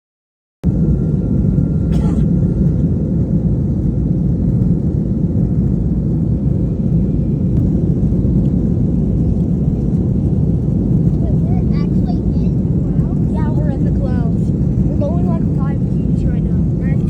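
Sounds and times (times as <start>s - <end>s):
jet engines rumbling in cabin: 0.6s - 17.0s.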